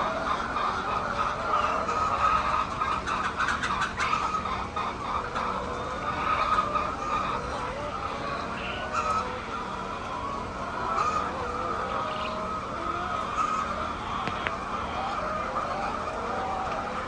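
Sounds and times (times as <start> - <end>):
faint steady hum: 0.0 - 17.0
flock of poultry calling: 0.0 - 17.0.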